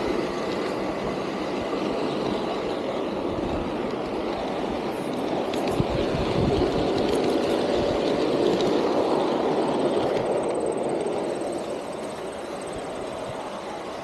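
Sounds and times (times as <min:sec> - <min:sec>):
model train wheels rumbling on rails: 0:00.0 - 0:14.0.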